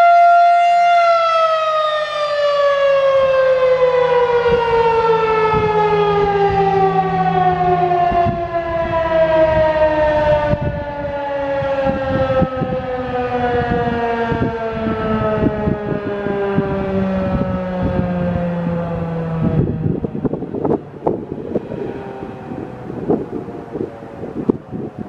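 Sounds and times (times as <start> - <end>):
warning siren winding down: 0.0 - 25.0.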